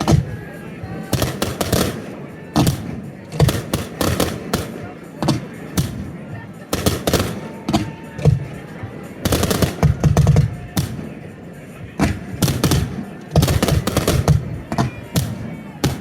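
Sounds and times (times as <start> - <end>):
fireworks shells bursting: 0.0 - 16.0.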